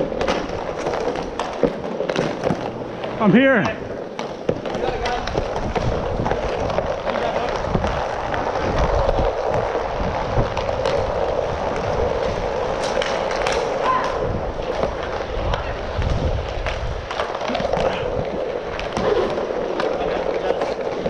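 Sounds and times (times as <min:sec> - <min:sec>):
clacks of sticks and puck: 0:00.0 - 0:21.0
inline skates rolling: 0:00.0 - 0:21.0.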